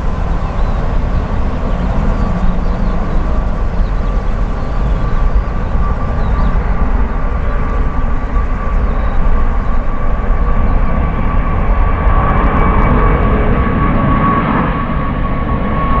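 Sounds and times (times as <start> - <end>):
jet engine high whine: 0.0 - 16.0
jet engine low rumble: 0.0 - 16.0.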